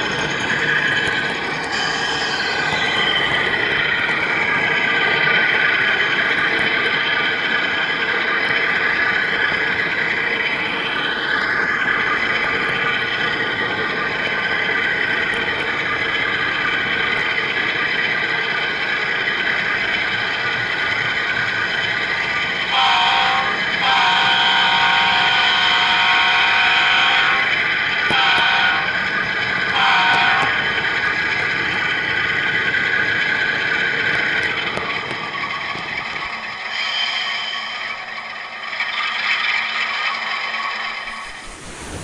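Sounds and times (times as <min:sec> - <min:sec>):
model train rolling rattle: 0:00.0 - 0:42.0.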